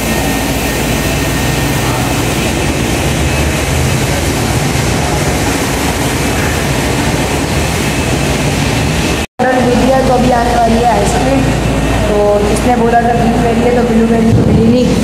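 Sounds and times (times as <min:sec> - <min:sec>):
ceiling fans whooshing: 0:00.0 - 0:15.0.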